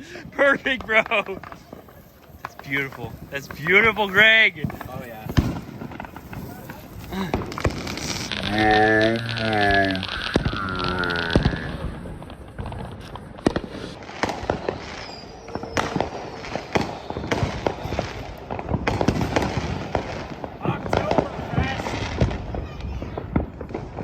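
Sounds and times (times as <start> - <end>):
fireworks bangs and pops: 0.0 - 24.0
fireworks crackling: 0.0 - 24.0.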